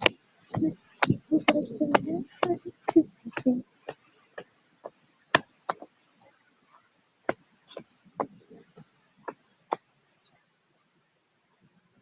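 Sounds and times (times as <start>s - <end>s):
sharp clicks and taps: 0.0s - 6.6s, 7.3s - 10.4s.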